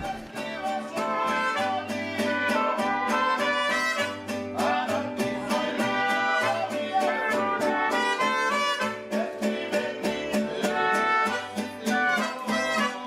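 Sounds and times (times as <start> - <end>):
bluegrass banjo and guitar music: 0.0 - 13.0.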